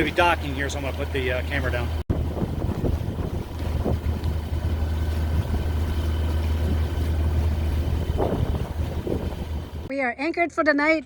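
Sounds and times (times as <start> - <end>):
boat engine humming: 0.0 - 10.2.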